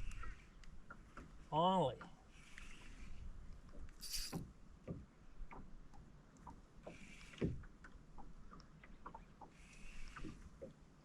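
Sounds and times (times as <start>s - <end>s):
small knocks and ticks: 0.0s - 11.0s
water splashing around boat: 0.0s - 11.0s.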